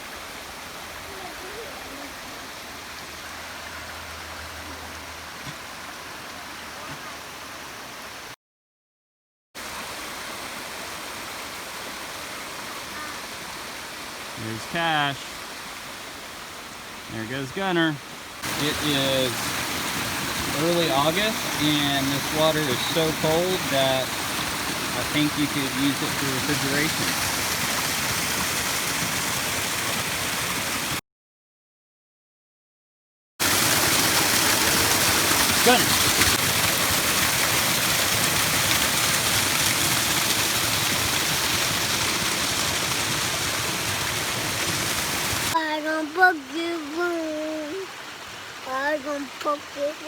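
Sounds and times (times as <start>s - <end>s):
waterfall and stream rushing: 0.0s - 8.4s, 9.6s - 31.0s, 33.4s - 50.0s.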